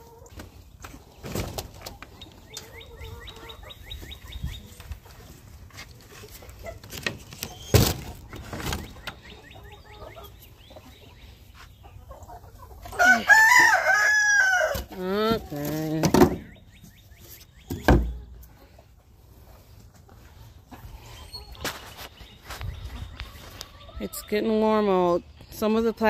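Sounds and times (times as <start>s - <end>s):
chickens clucking and chirping: 0.0s - 26.0s.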